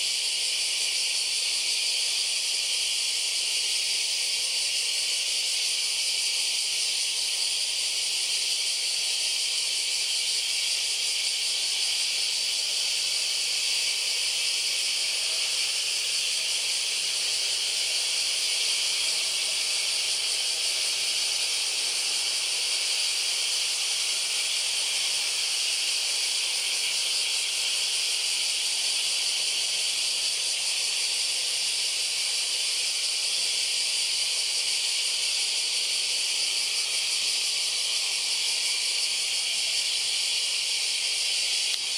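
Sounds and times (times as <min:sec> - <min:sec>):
cicadas droning: 0:00.0 - 0:41.9.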